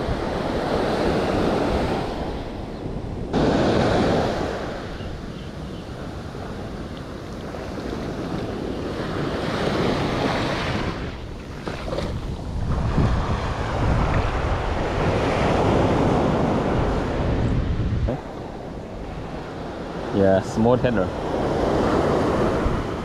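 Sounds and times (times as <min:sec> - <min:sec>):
wind buffeting microphone: 0:00.0 - 0:23.0
small waves washing on sand: 0:03.3 - 0:23.0.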